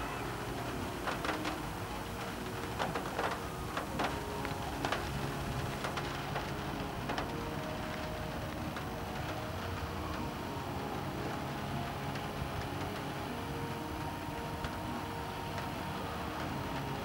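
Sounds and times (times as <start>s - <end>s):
raindrops tapping on window: 0.0s - 17.0s
steady hiss of rain: 0.0s - 17.0s.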